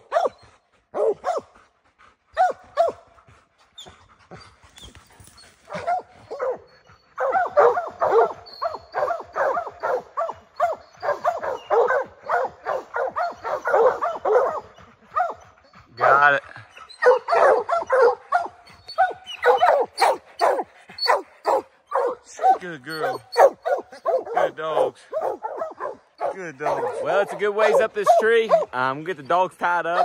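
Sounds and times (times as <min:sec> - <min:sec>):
hounds barking: 0:00.0 - 0:30.0.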